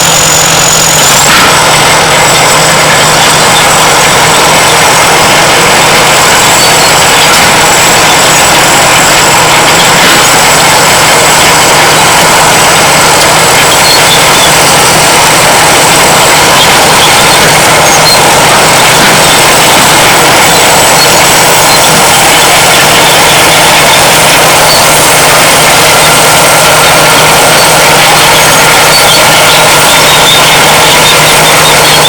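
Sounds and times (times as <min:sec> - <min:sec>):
bulldozer diesel engine running: 0:00.0 - 0:32.0
turbocharger whistle: 0:00.0 - 0:32.0.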